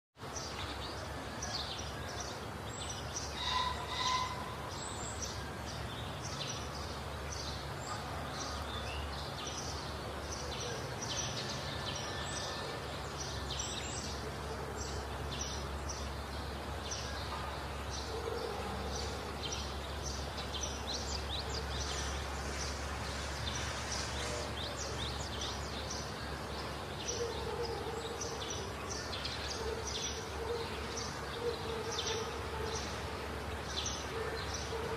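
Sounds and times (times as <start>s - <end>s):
steady background noise: 0.2s - 34.9s.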